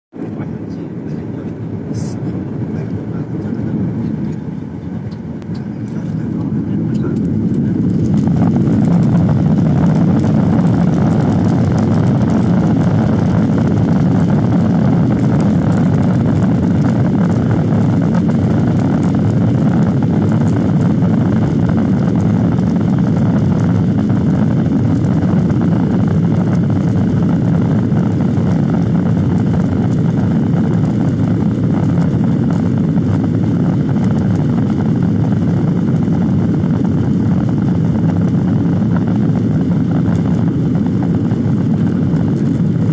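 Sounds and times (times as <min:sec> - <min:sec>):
wheels rumbling on runway: 0:00.1 - 0:42.9
jet engines at takeoff thrust: 0:00.2 - 0:42.9.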